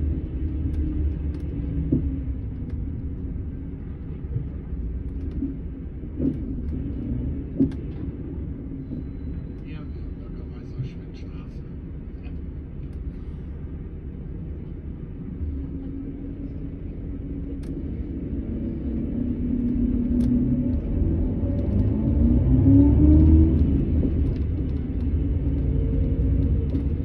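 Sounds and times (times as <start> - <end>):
coach diesel engine rumbling: 0.0 - 27.0.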